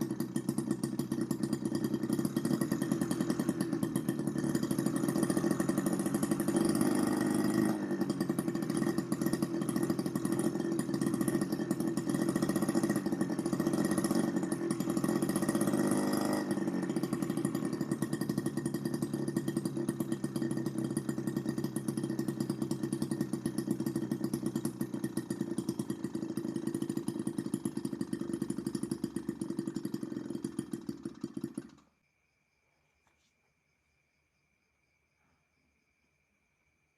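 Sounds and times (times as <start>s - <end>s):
small engine buzzing: 0.0s - 32.0s.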